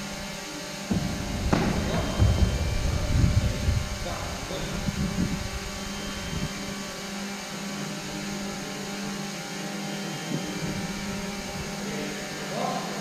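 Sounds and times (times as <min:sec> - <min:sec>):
hall background hum and hiss: 0:00.0 - 0:13.0.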